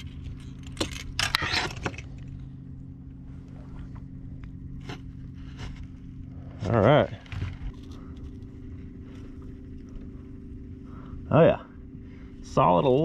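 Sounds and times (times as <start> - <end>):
electric trolling motor humming: 0.0 - 13.0.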